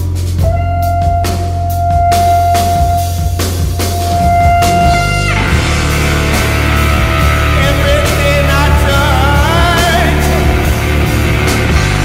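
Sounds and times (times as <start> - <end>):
heavy rock band playing: 0.0 - 12.0
cymbal crashes: 0.3 - 12.0
wavering lead guitar line: 0.4 - 12.0.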